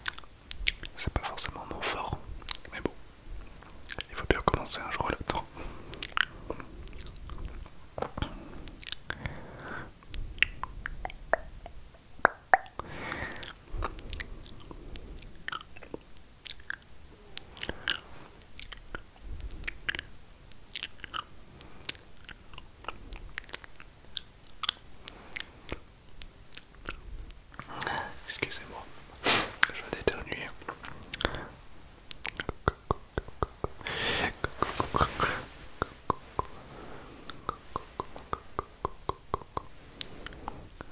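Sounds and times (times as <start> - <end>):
wet mouth clicks and smacks: 0.0 - 3.0, 3.7 - 29.0, 29.6 - 40.9
soft breathing: 1.0 - 11.0, 12.8 - 40.9.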